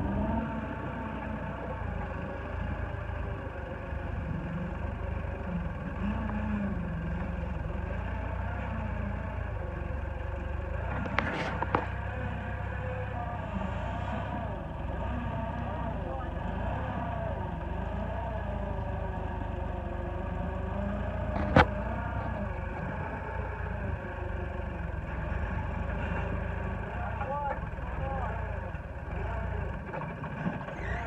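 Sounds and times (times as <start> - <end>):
forklift engine under load: 0.0 - 31.0.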